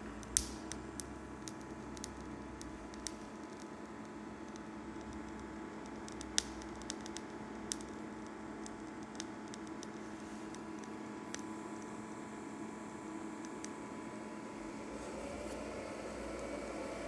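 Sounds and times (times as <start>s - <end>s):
induction heater steady hum: 0.0s - 17.0s.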